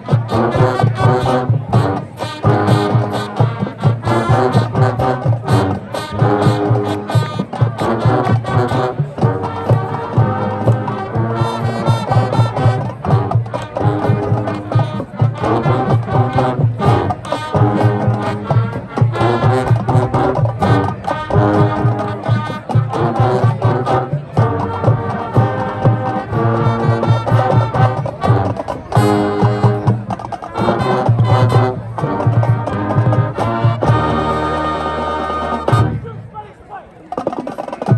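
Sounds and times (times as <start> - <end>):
brass melody: 0.0 - 36.3
marching drums: 0.0 - 36.3, 37.1 - 37.9.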